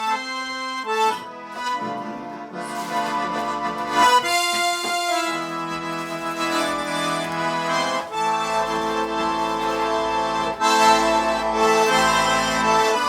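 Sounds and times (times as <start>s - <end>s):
button accordion slow melody: 0.0s - 13.0s.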